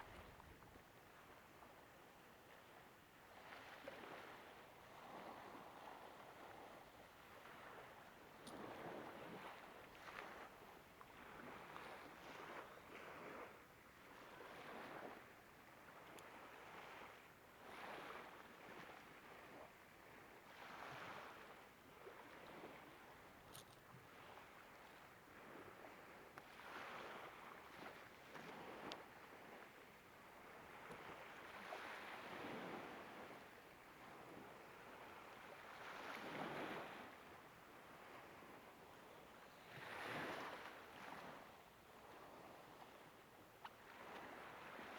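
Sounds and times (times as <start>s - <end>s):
small waves washing on shore: 0.0s - 44.9s.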